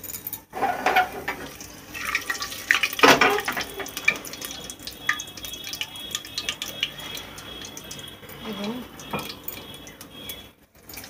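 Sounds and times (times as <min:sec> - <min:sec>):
spices sizzling in hot oil: 0:00.6 - 0:11.0.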